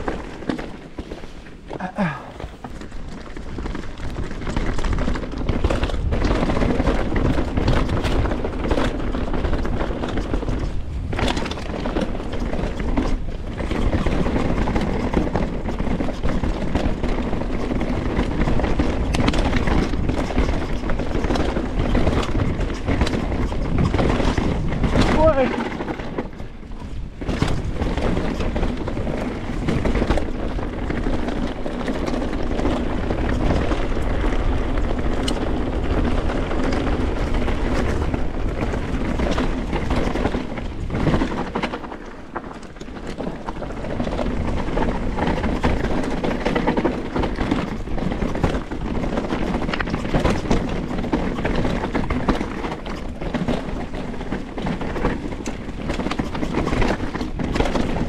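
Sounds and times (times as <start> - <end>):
bike clattering and rattling: 0.0 - 58.0
bike tyres on dirt and rock: 0.0 - 58.0.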